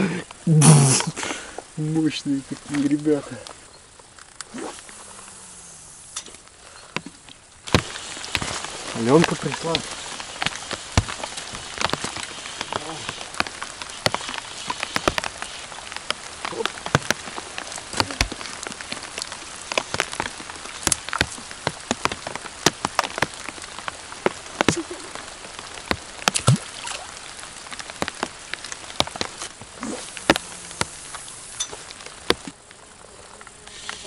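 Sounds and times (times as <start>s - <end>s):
raindrops hitting a surface: 0.0s - 34.0s
steady rain hiss: 0.0s - 34.0s.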